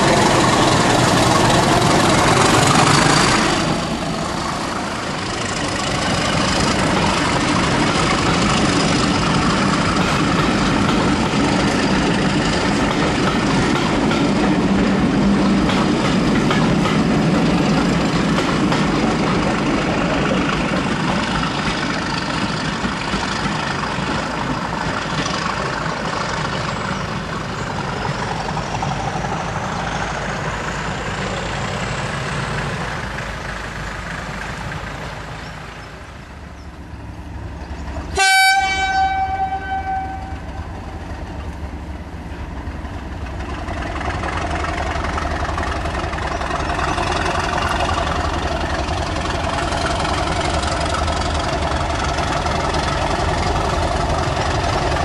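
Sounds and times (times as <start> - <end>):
diesel locomotive engine under load: 0.0 - 55.0.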